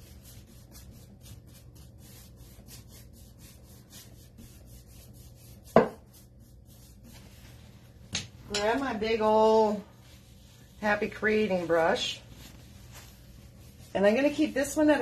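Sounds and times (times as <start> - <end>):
paintbrush scrubbing on wood: 0.0 - 8.1, 8.7 - 15.0.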